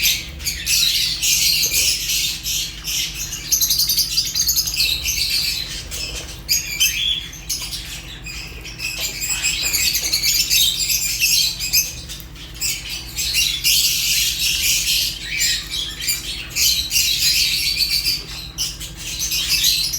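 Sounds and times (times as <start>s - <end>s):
lovebirds chirping and chattering: 0.0s - 19.9s.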